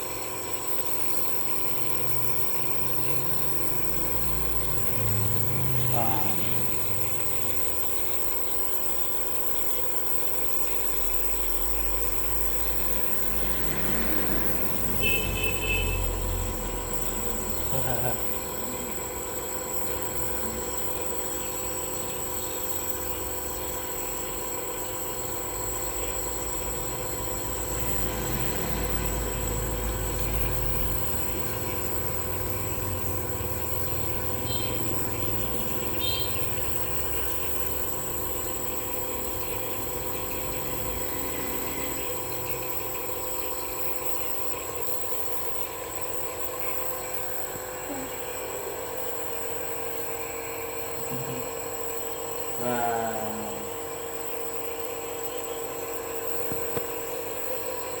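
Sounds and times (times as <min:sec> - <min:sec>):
nebulizer machine hum: 0:00.0 - 0:58.0.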